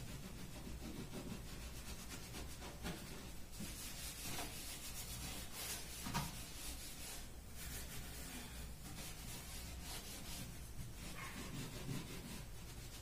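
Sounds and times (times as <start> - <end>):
hand scrubbing cabinet: 0.0 - 13.0.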